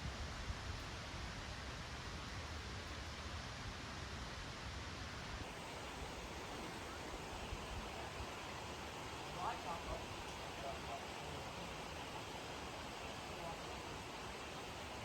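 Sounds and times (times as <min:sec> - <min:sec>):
outdoor rushing hiss: 0:00.8 - 0:15.0.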